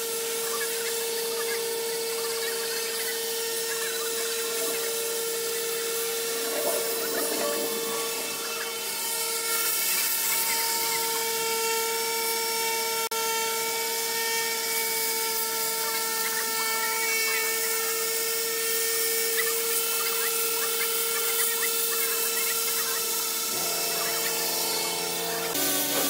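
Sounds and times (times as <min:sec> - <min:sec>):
disc sander grinding paint: 0:00.0 - 0:26.0.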